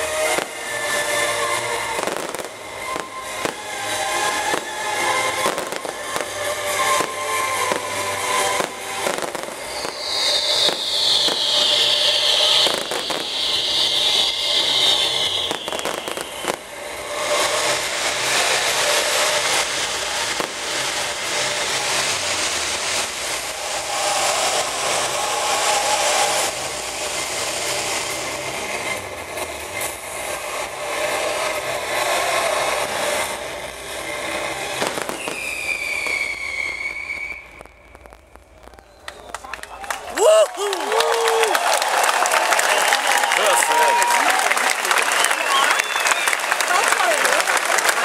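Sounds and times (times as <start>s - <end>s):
loud high hiss: 0.0s - 38.6s
fireworks bangs and crackling: 0.0s - 48.0s.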